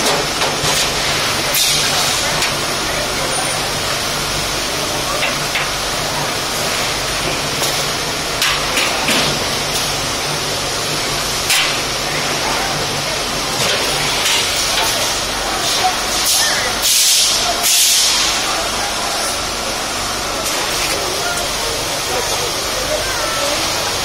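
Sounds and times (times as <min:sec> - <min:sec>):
steady loud hiss: 0:00.0 - 0:24.0.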